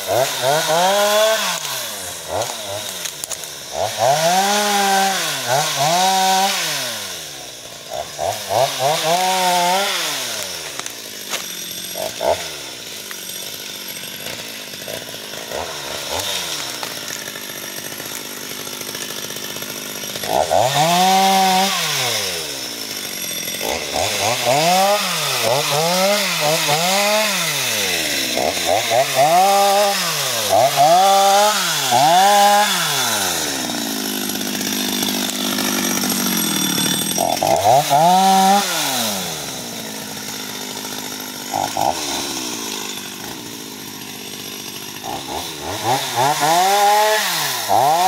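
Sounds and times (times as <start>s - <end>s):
chainsaw revving: 0.0s - 48.0s.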